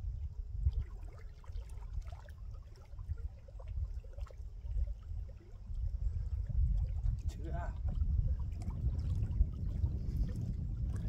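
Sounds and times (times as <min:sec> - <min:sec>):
wind rumbling on microphone: 0:00.0 - 0:11.0
lake water lapping: 0:00.3 - 0:11.0.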